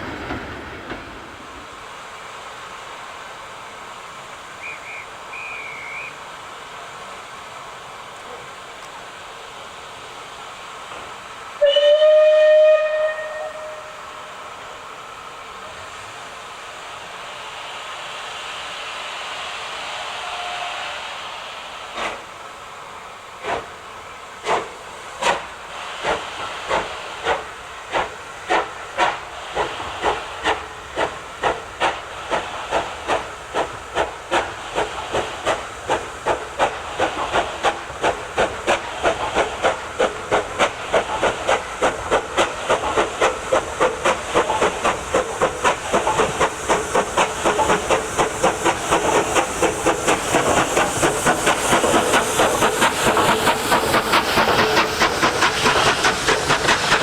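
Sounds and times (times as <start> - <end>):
steam hissing: 0.0 - 57.0
steam locomotive exhaust beats: 0.0 - 57.0.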